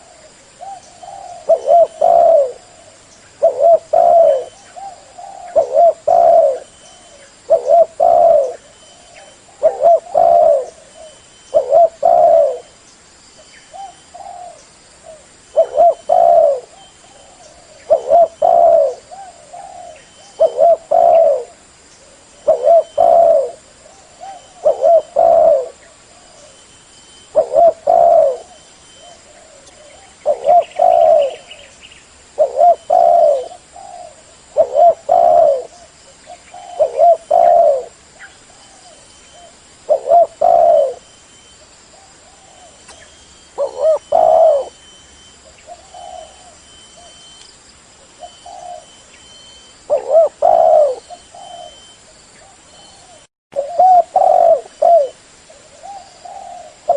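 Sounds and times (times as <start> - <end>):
dove cooing: 0.0 - 12.8, 13.7 - 41.1, 41.9 - 47.4, 48.0 - 56.9.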